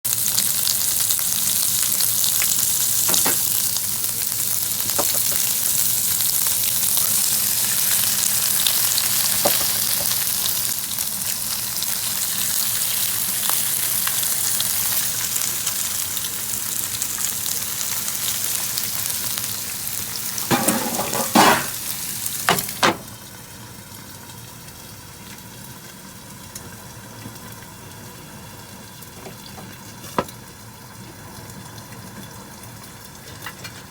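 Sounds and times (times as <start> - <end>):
food sizzling in a frying pan: 0.1 - 33.9.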